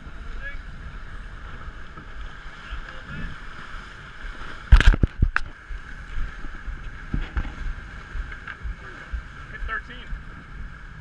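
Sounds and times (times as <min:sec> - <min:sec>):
wind and water rushing: 0:00.0 - 0:11.0.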